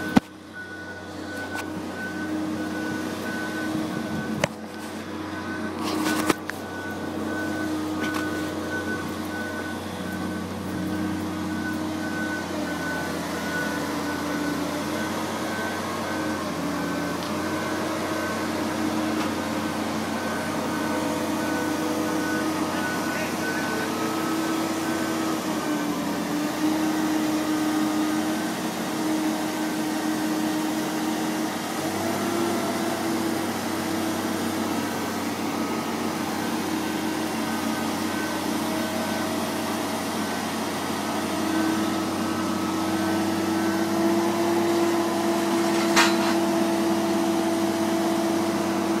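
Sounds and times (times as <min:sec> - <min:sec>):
engine humming under load: 0:00.0 - 0:49.0.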